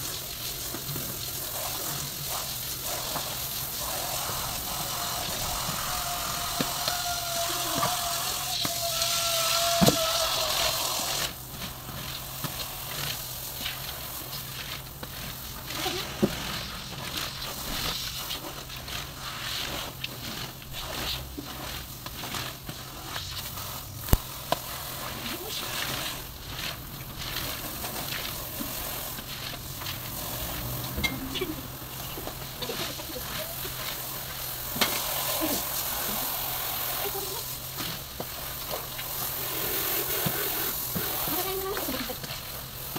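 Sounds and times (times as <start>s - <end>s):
loud hiss with steady tone: 0.0s - 42.9s
wet carpet being rolled up: 0.0s - 42.9s.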